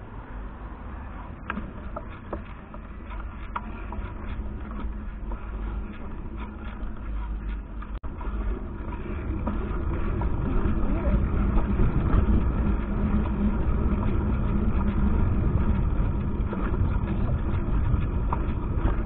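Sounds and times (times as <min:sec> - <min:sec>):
road rumble: 0:00.0 - 0:19.0
wind noise: 0:01.2 - 0:19.0.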